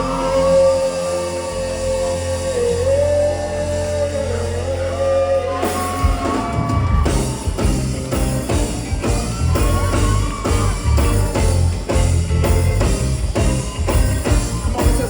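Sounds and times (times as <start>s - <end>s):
drums and bass beat: 0.0s - 15.0s.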